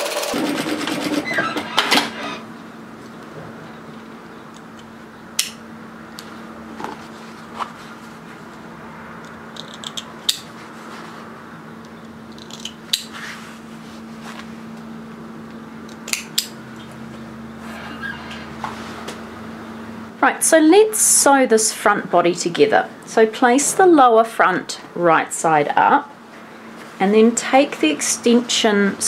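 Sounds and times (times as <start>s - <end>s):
steady low hum: 0.3s - 29.0s.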